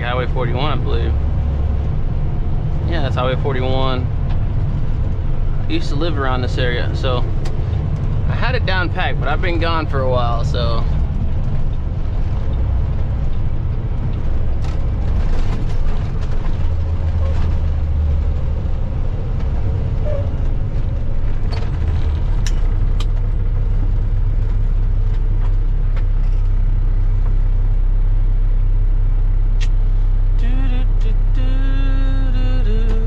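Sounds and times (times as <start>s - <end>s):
truck diesel engine drone: 0.0s - 33.0s.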